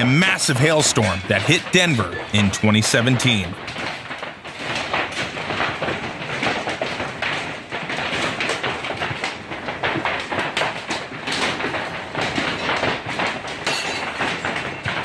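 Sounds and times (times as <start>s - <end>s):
hailstones pelting hard surfaces: 0.0s - 15.0s.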